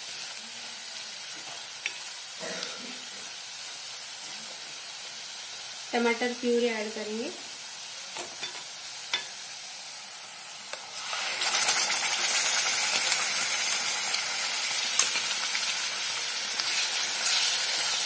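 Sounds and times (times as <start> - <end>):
hot oil sizzling: 0.0 - 18.0.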